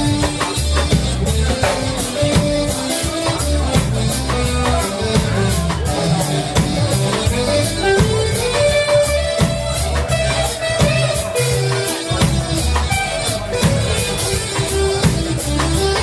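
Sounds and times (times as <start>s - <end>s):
bass line: 0.0s - 16.0s
drum kit beat: 0.0s - 16.0s
reggae band playing: 0.0s - 16.0s.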